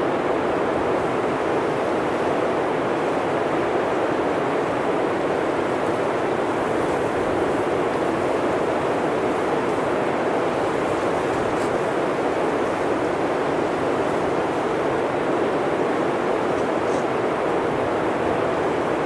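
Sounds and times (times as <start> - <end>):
blizzard wind blowing: 0.0 - 19.0.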